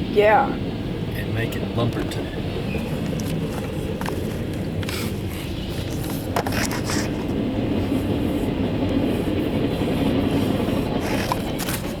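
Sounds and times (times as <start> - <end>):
wagon wheels on rails: 2.0 - 12.0.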